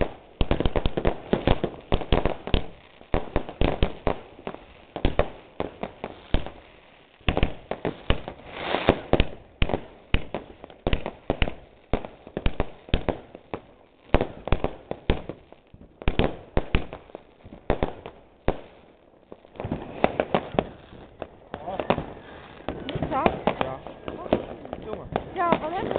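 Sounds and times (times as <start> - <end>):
fireworks bangs and pops: 0.0 - 25.9.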